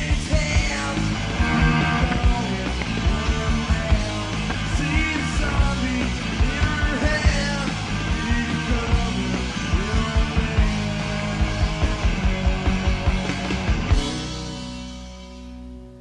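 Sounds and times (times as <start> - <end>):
drums hitting steadily: 0.0 - 14.5
rock band playing live: 0.0 - 15.9.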